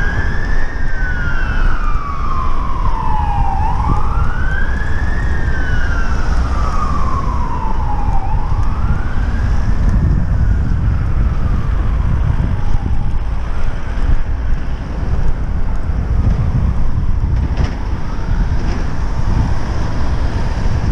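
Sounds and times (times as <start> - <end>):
wailing siren: 0.0 - 20.9
wind rumble on microphone: 0.0 - 20.9.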